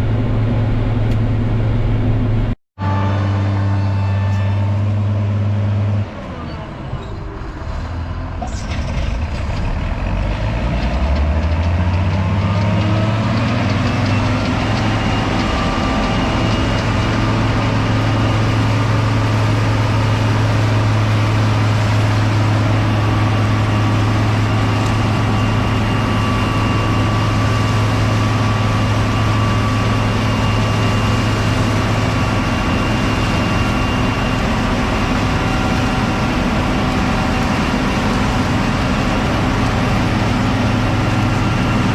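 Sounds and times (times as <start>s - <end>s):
diesel engine revving up: 0.0s - 41.9s.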